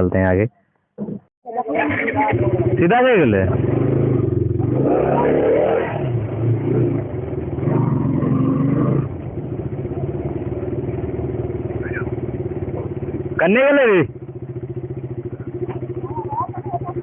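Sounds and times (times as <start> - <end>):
motorcycle engine running: 1.6 - 17.0.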